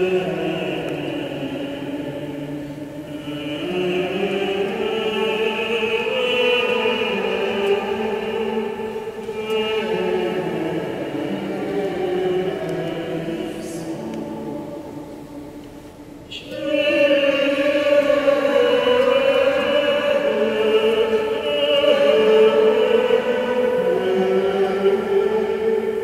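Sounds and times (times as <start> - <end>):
voices singing held notes: 0.0 - 26.0.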